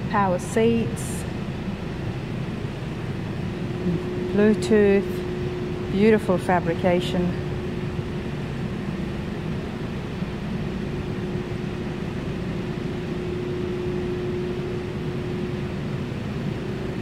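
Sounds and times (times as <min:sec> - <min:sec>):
ventilation hum: 0:00.0 - 0:17.0.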